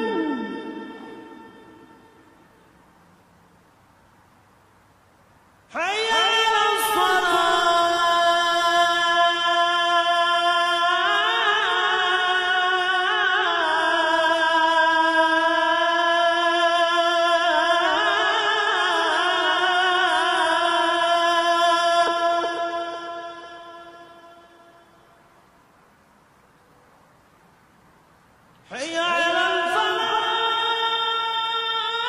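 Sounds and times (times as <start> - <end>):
person chanting call to prayer: 0.0 - 2.8, 5.7 - 25.3, 28.6 - 32.0.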